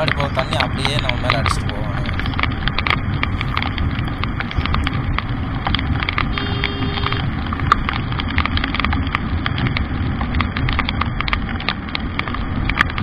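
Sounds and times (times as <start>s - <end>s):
motorcycle riding at speed: 0.0s - 13.0s
raindrops ticking on camera: 0.0s - 13.0s
wind and road noise: 0.0s - 13.0s.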